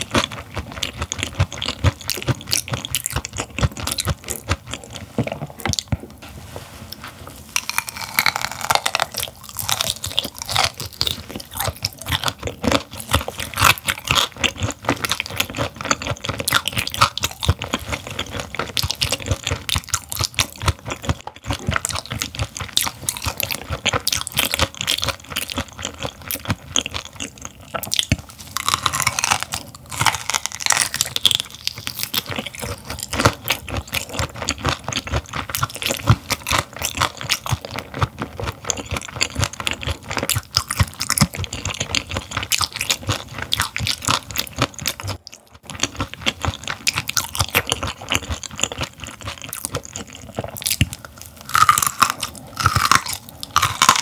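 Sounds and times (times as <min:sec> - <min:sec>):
crunching chewing: 0:00.0 - 0:54.0.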